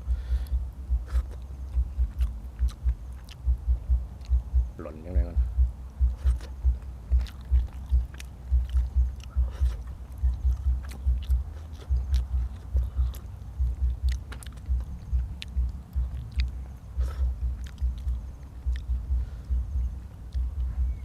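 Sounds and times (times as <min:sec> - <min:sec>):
person chewing food: 0:00.0 - 0:04.6, 0:05.8 - 0:21.0
wet mouth clicks and smacks: 0:01.0 - 0:04.5, 0:05.9 - 0:20.7.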